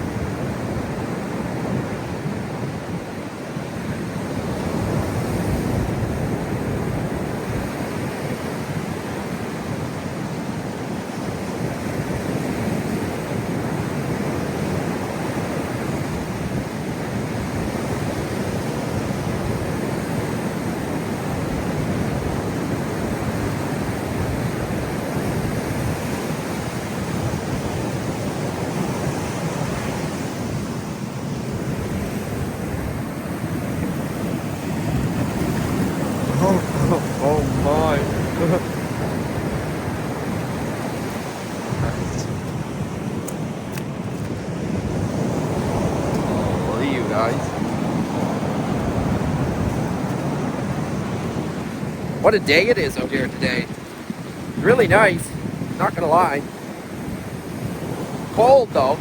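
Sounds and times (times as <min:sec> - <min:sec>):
waves breaking on rocky shore: 0:00.0 - 0:59.0.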